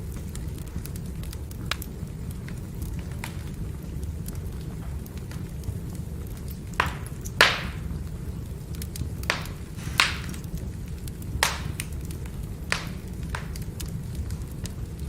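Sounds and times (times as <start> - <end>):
wood fire burning and popping: 0.0 - 15.0.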